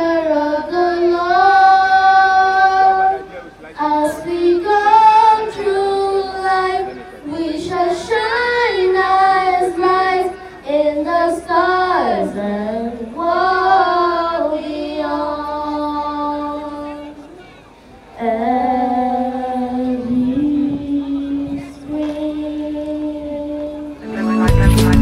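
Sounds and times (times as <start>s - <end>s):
girls singing into microphones: 0.0s - 17.3s, 18.1s - 25.0s.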